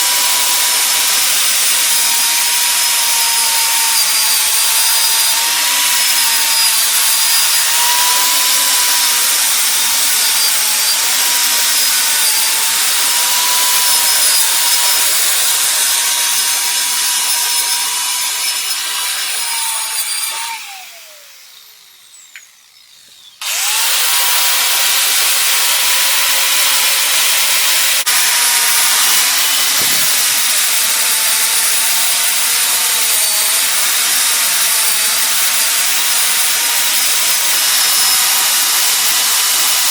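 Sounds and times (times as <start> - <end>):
angle grinder on steel: 0.0 - 39.9.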